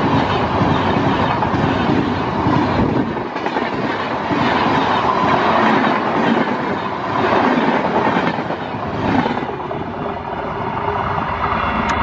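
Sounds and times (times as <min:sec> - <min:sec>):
train wheels clattering over track: 0:00.0 - 0:10.2.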